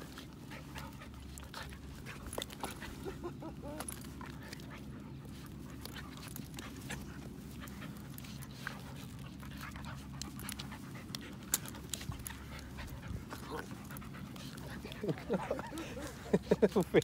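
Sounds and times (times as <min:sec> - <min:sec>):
dogs panting: 0:00.0 - 0:17.0
small clicks and rustles: 0:00.0 - 0:17.0.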